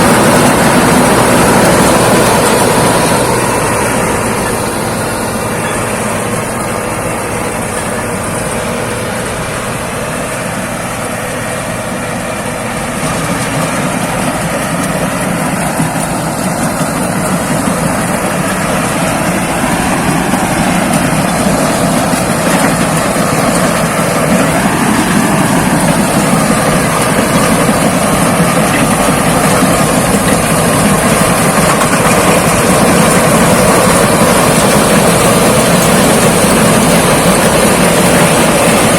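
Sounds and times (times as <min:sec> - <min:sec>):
combine harvester droning: 0:00.0 - 0:38.9.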